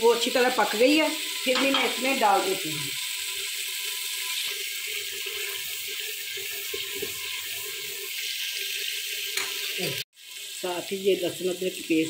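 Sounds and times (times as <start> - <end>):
paste sizzling in ghee: 0.0 - 12.0.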